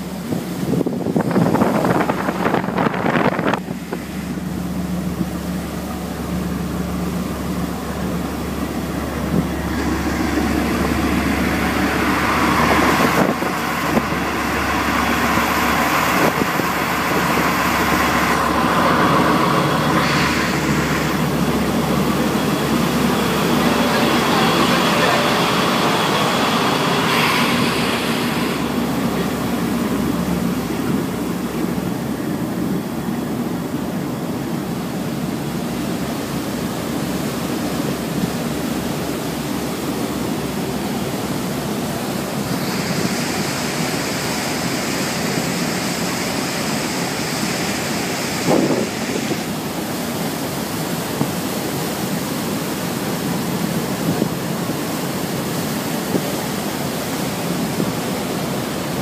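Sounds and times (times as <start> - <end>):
low engine drone: 0.0 - 59.0
water rushing along a hull: 0.0 - 59.0
wind: 0.0 - 59.0.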